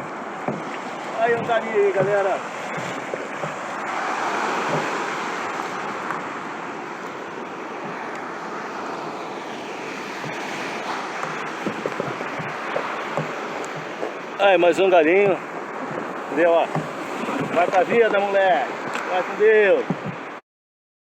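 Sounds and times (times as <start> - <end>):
sea water washing: 0.0 - 20.4
wind on microphone: 0.0 - 20.4.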